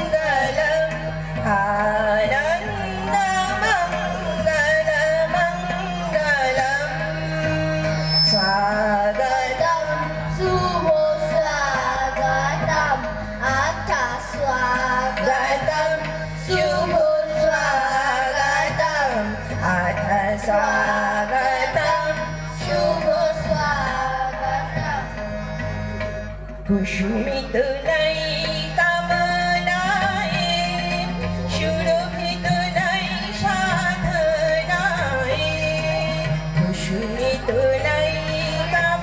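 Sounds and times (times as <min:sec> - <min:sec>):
woman leading singing: 0:00.0 - 0:07.1, 0:08.3 - 0:25.2, 0:26.7 - 0:39.0
harmonium drone: 0:00.0 - 0:39.0
rhythmic percussion strokes: 0:00.0 - 0:39.0.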